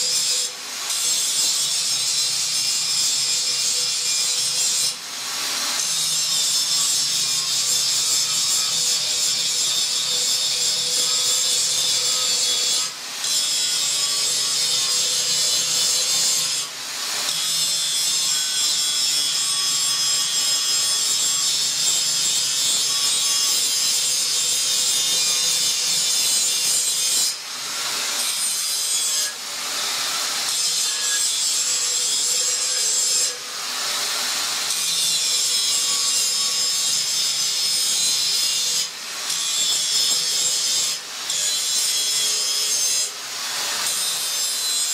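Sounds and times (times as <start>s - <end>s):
angle grinder grinding metal: 0.0s - 44.9s.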